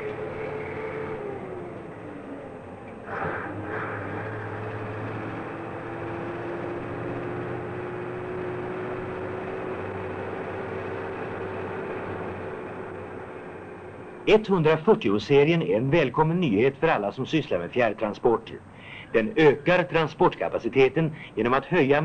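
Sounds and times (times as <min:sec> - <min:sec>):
diesel truck engine pulling: 0:00.0 - 0:22.0.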